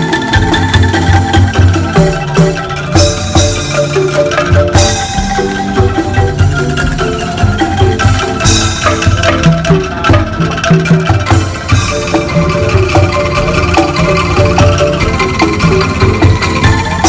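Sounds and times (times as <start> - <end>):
bamboo ensemble playing rhythmic music: 0.0 - 17.0.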